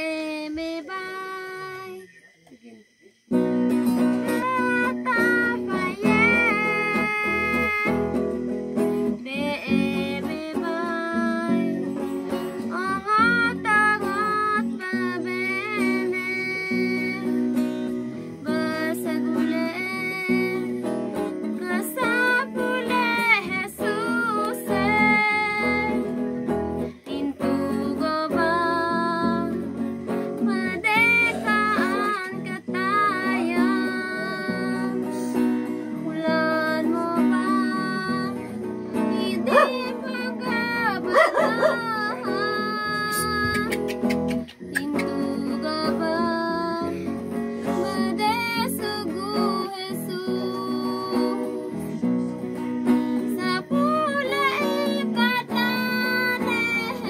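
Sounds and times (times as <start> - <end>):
acoustic guitar strumming chords: 3.3 - 57.0
person singing: 4.1 - 8.4, 9.1 - 26.2, 26.8 - 57.0.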